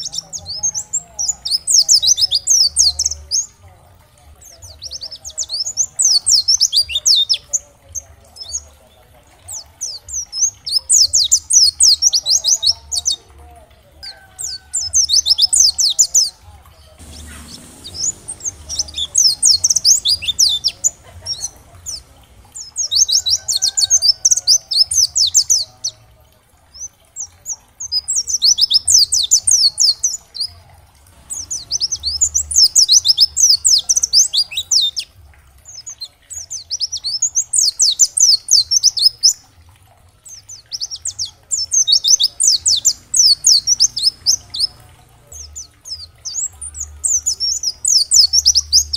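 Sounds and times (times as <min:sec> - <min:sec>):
bird high twittering song: 0:00.0 - 0:13.4, 0:14.0 - 0:26.0, 0:26.7 - 0:48.9.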